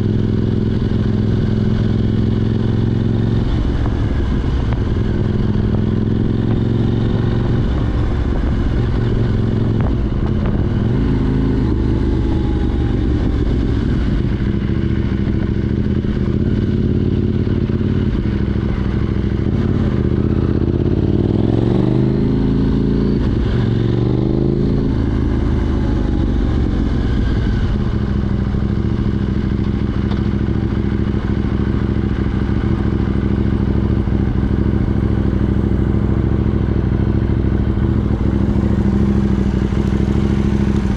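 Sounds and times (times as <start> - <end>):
loud motorcycle engine running: 0.0 - 40.9.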